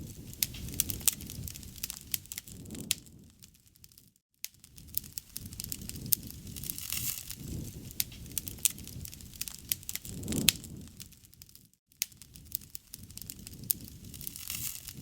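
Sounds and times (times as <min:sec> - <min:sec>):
flames rushing: 0:00.0 - 0:03.9, 0:04.6 - 0:15.0
wood fire crackling and popping: 0:00.0 - 0:15.0.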